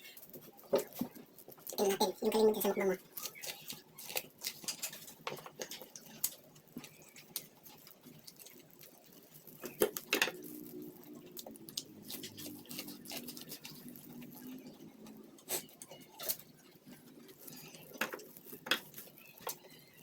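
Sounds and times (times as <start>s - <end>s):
chewing corn on the cob: 0.2s - 20.0s.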